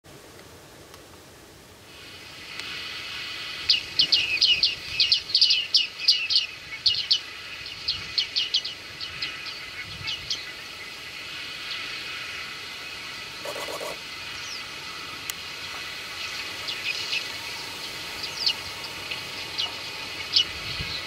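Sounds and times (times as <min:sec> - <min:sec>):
steady high hiss: 0:00.1 - 0:21.0.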